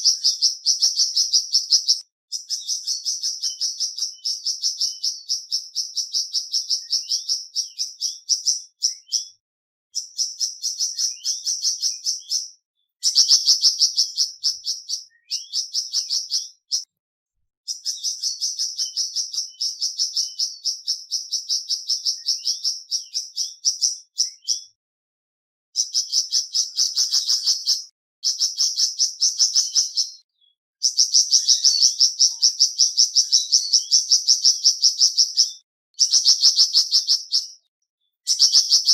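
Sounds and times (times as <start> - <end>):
bird chirping rapidly: 0.0 - 9.4, 10.0 - 16.9, 17.7 - 24.8, 25.8 - 38.9.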